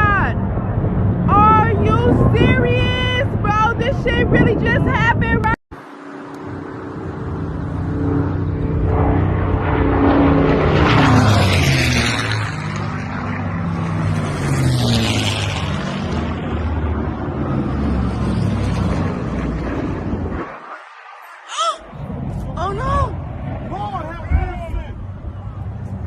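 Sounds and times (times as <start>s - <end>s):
aircraft engine flying past: 0.0s - 26.0s.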